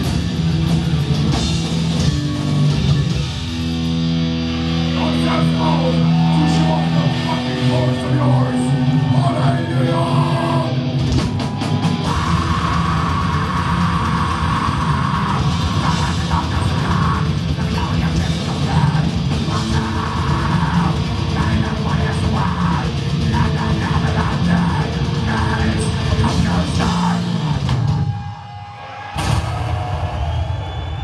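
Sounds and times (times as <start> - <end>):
distorted guitars: 0.0 - 30.5
drums: 0.0 - 31.0.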